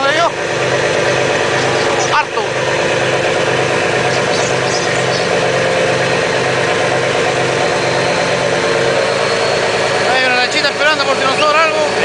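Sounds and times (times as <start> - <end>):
boat engine pulsing drone: 0.0 - 12.0.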